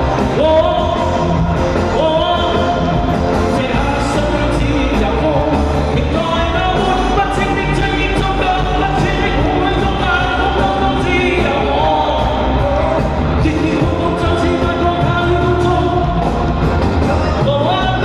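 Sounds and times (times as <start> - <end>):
band backing with drum beat: 0.0 - 18.0
person singing: 0.0 - 18.0.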